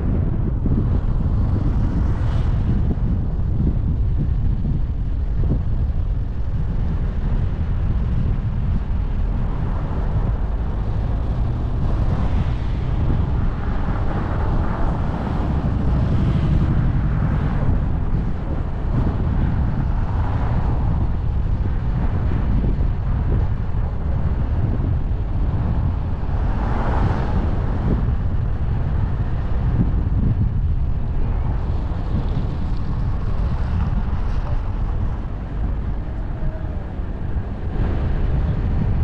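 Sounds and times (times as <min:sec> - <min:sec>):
car wind and road noise: 0:00.0 - 0:39.0.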